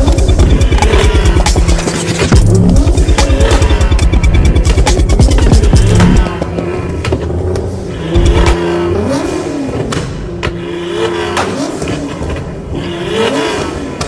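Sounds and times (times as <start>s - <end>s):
car engine revving: 0.0s - 14.0s
exhaust pops and bangs: 0.0s - 14.0s.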